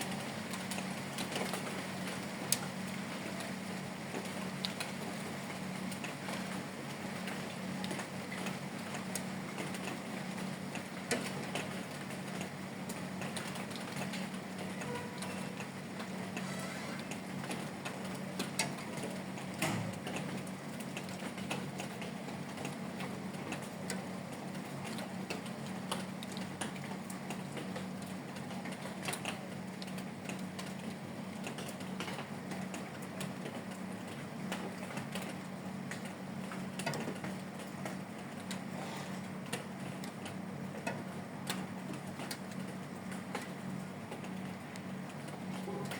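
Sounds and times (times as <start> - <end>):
light rain falling: 0.0 - 45.9
raindrops tapping on hard surfaces: 0.0 - 45.9.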